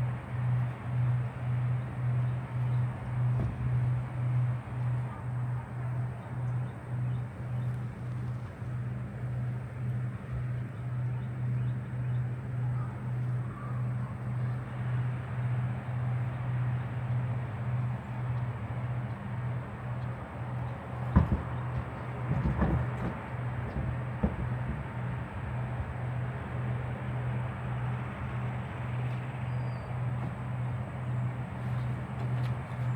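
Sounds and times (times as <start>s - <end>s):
pulsing mechanical hum: 0.0s - 32.9s.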